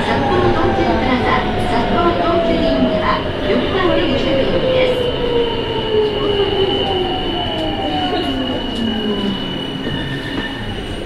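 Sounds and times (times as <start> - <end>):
subway train motor whine: 0.0 - 11.0.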